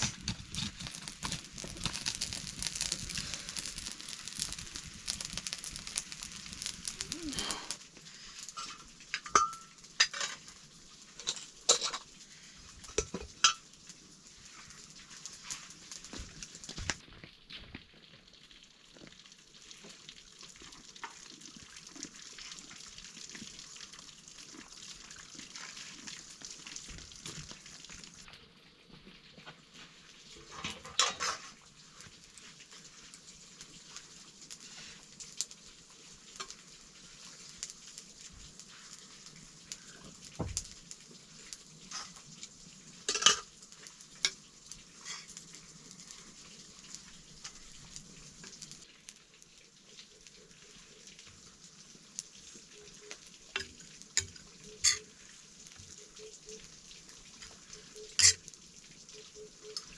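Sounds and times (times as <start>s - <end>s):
rice sizzling in a pan: 0.0s - 59.9s.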